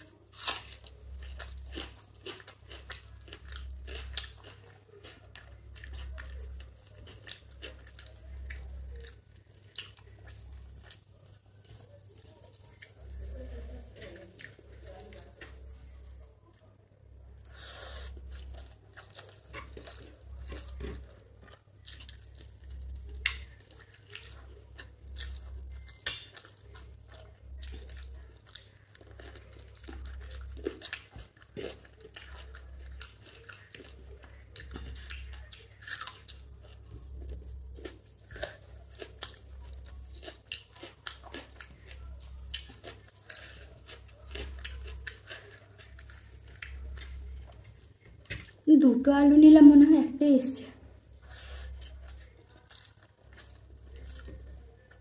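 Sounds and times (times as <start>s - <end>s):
person chewing food: 0.0s - 48.7s, 50.8s - 55.0s.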